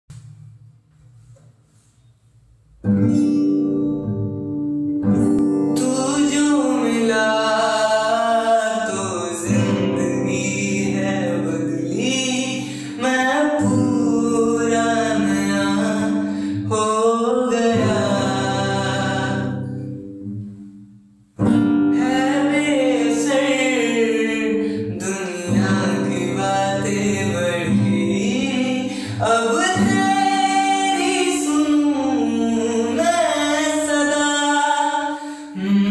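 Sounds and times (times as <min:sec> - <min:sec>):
guitar accompaniment: 0:00.1 - 0:35.9
person singing slow song: 0:05.2 - 0:20.1, 0:21.8 - 0:35.9.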